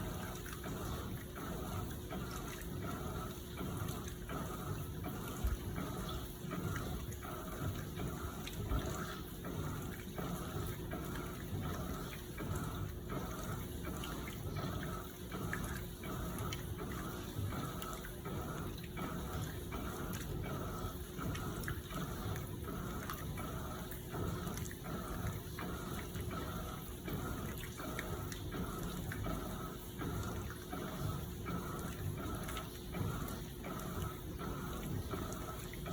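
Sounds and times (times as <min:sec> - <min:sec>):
washing machine hum: 0:00.0 - 0:35.9
water sloshing in washing machine: 0:00.0 - 0:35.9.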